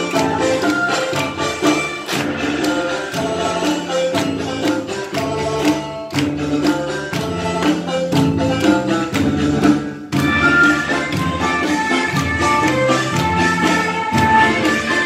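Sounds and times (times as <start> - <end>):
steady percussive beat: 0.0 - 15.0.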